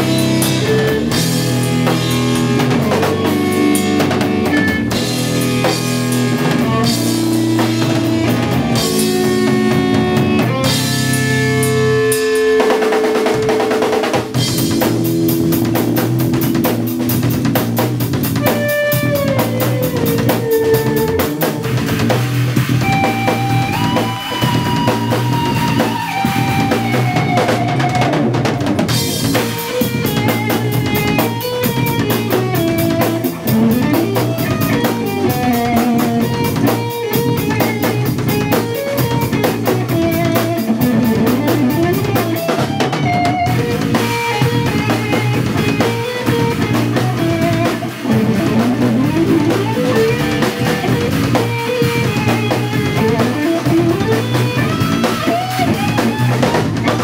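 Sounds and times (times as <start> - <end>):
drum kit playing: 0.0 - 57.0
electric guitar lead lines: 0.0 - 57.0.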